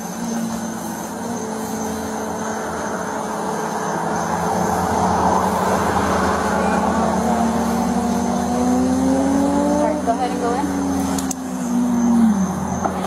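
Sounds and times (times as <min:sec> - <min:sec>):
car engine idling: 0:00.0 - 0:13.0
road noise: 0:00.0 - 0:13.0.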